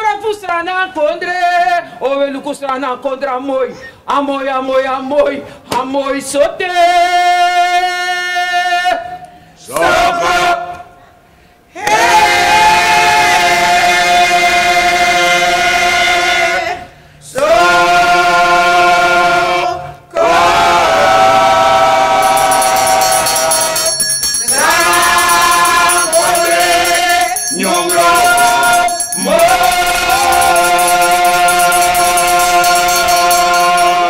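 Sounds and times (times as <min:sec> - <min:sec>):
group of voices singing together: 0:06.6 - 0:34.0.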